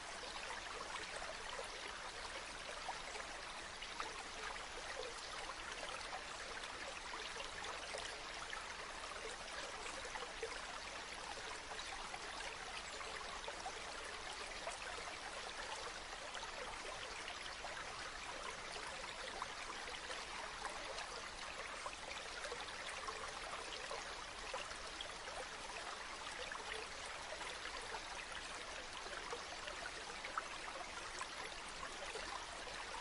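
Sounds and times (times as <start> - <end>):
water splashes and trickles: 0.0 - 33.0.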